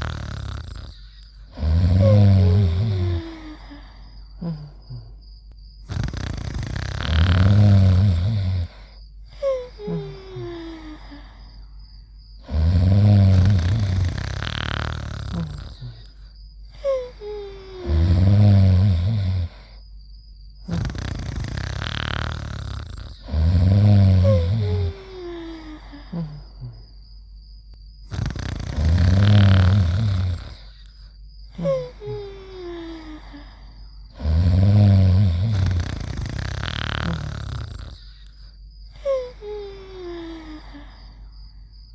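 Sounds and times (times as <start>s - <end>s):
heavy snoring: 0.0s - 5.2s, 5.8s - 11.5s, 12.4s - 16.2s, 16.8s - 19.8s, 20.6s - 27.0s, 28.0s - 41.2s.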